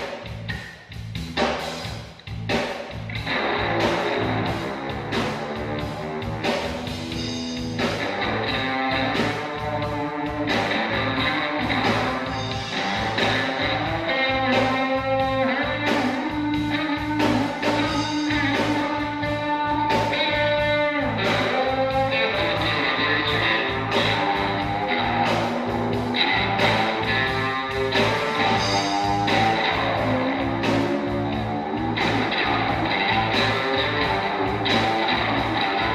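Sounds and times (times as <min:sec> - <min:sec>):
band playing reggae: 0:00.0 - 0:35.9.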